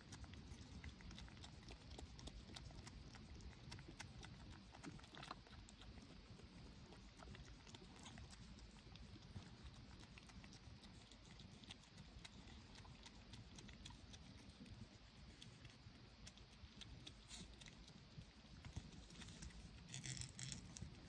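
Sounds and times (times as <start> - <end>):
faint ticks: 0.0 - 21.0.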